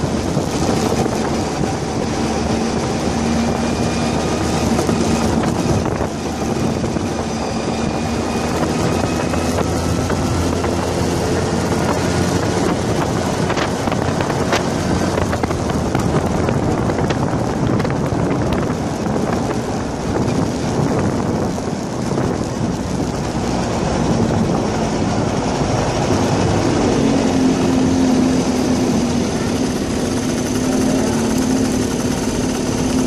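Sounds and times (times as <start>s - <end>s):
go-kart engine running: 0.0s - 33.0s
road noise: 0.0s - 33.0s
wind buffeting microphone: 0.0s - 33.0s.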